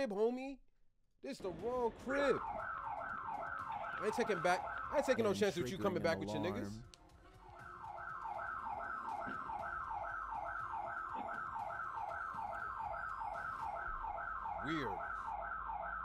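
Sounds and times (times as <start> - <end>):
electronic alarm siren: 1.9 - 16.0.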